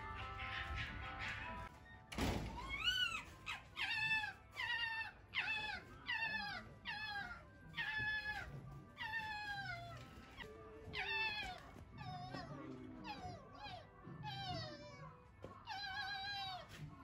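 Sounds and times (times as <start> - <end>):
fox whining calls: 2.6 - 16.8.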